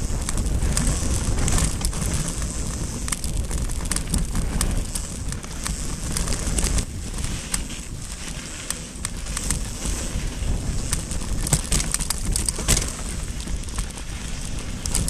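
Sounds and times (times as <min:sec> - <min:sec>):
stones clicking and rattling: 0:00.0 - 0:09.7, 0:10.8 - 0:15.0
tyres crunching over gravel: 0:00.0 - 0:15.0
wind rumble on microphone: 0:00.0 - 0:15.0.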